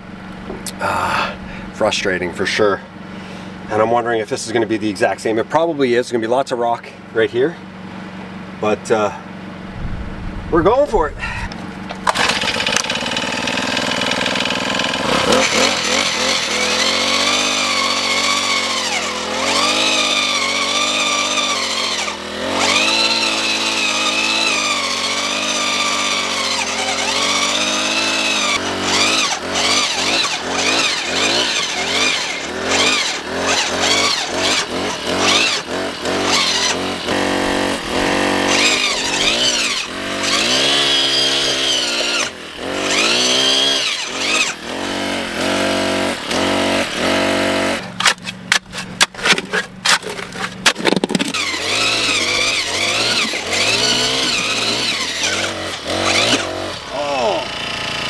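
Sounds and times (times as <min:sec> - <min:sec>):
gas engine auger drilling: 0:11.2 - 0:58.0.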